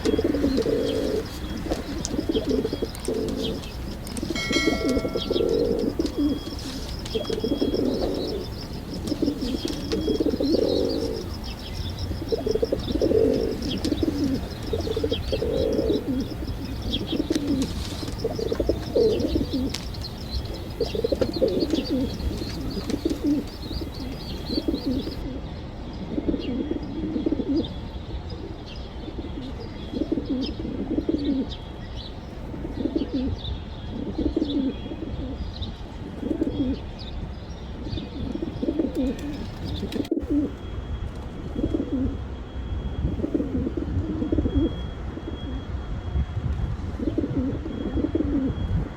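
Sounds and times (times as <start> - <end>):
pigeons cooing: 0.0 - 25.4, 26.1 - 27.8, 29.2 - 31.5, 32.5 - 33.4, 34.0 - 36.9, 38.0 - 40.6, 41.5 - 42.2, 43.1 - 45.7, 46.9 - 48.9.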